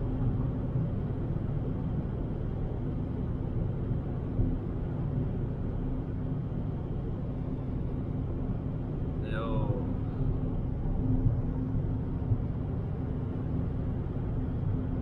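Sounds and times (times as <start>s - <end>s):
car engine and tyres droning: 0.0s - 15.0s
faint steady hum: 0.0s - 15.0s.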